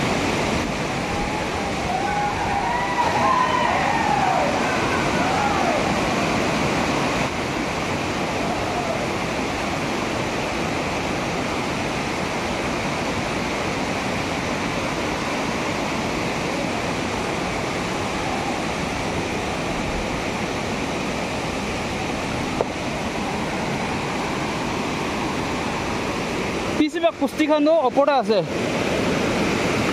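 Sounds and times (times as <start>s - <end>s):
river rapids rushing: 0.0s - 29.9s.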